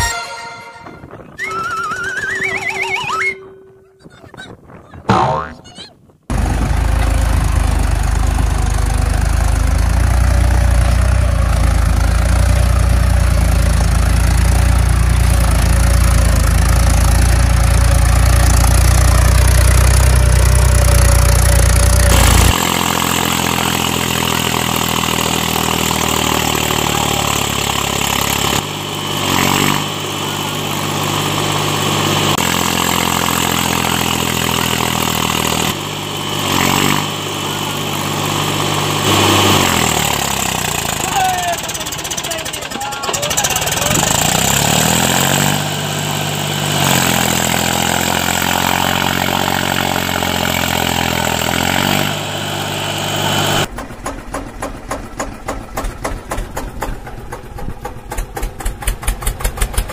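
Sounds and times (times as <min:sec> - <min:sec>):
higher engine note: 0:00.0 - 0:04.4, 0:05.1 - 0:59.9
tractor engine running: 0:00.0 - 0:59.9.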